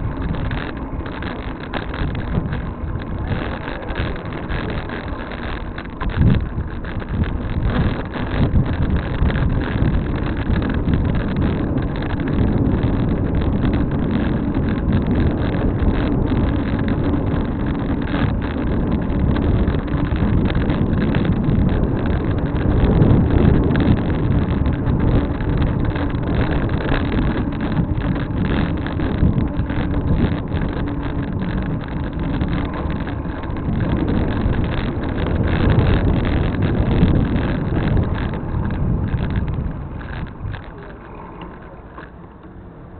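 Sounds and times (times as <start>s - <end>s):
wind rush on microphone: 0.0s - 42.9s.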